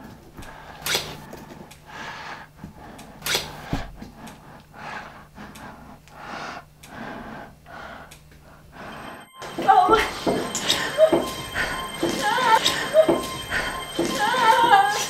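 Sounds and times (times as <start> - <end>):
faint steady hum: 0.0 - 15.0
heavy breathing: 0.4 - 15.0.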